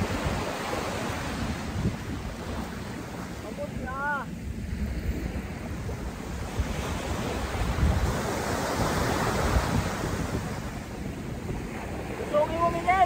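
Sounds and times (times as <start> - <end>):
surf washing up a beach: 0.0 - 13.0
wind buffeting microphone: 0.0 - 13.0.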